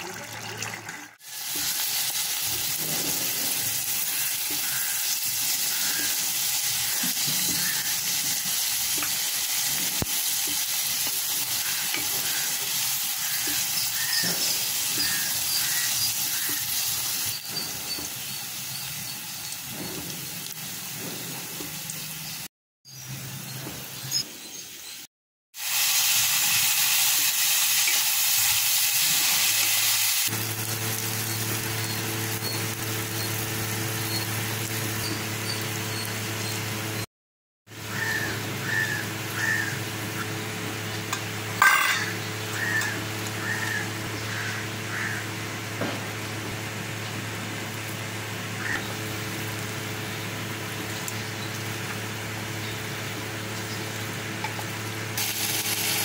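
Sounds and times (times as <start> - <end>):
vegetables sizzling in hot oil: 1.2 - 22.5, 25.6 - 37.1, 37.8 - 56.0.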